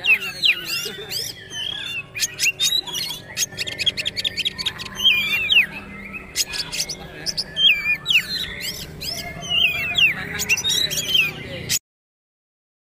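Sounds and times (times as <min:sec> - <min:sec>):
bird whistled phrases: 0:00.0 - 0:11.8.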